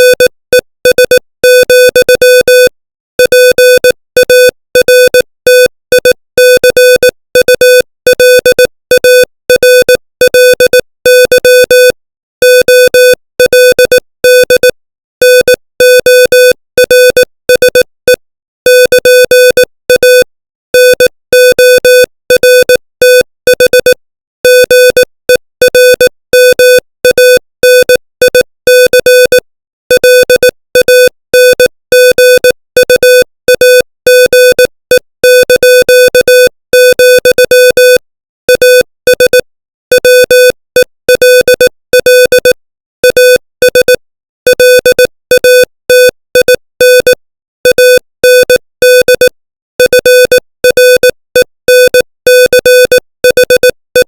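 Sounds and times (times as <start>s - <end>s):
morse code beeping: 0.0s - 0.3s, 0.9s - 54.0s.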